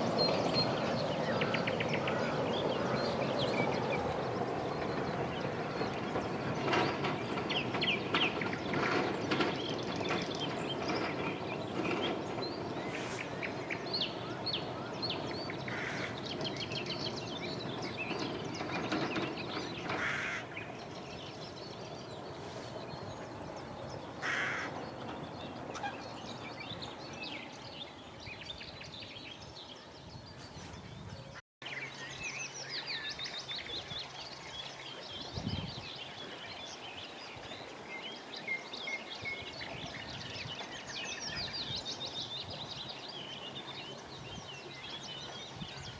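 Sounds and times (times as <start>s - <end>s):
birds chirping and trilling: 0.0s - 45.9s.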